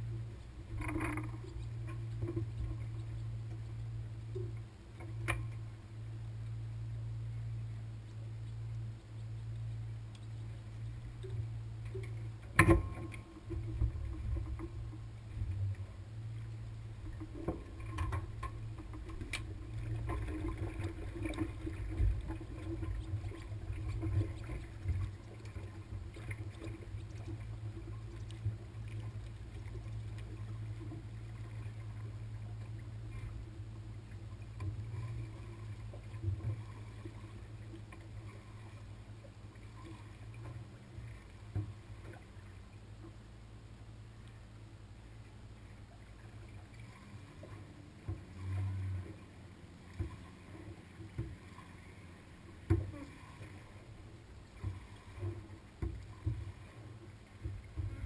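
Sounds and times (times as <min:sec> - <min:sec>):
low steady engine rumble: 0:00.0 - 0:58.0.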